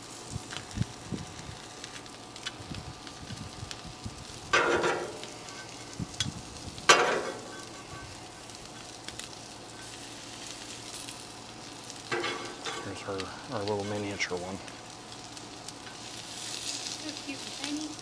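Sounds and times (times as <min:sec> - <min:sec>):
tortillas sizzling on a griddle: 0:00.0 - 0:18.0.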